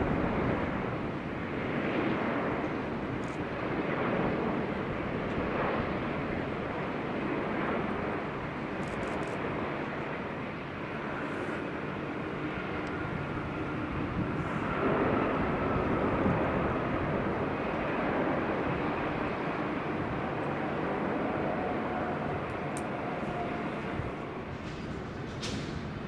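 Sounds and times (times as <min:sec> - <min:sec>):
jet airliner engine rumble: 0:00.0 - 0:26.0.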